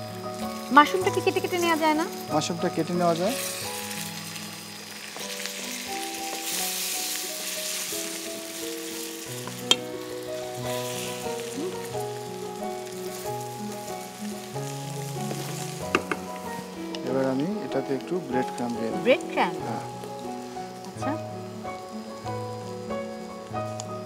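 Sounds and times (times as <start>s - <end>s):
mushrooms sizzling in a pan: 0.0s - 24.0s.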